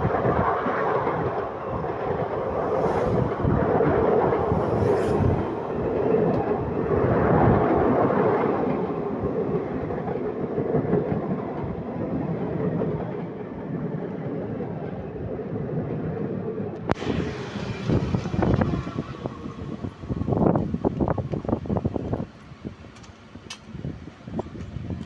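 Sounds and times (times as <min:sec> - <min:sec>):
train wheels rumbling on rails: 0:00.0 - 0:16.0, 0:16.7 - 0:25.0.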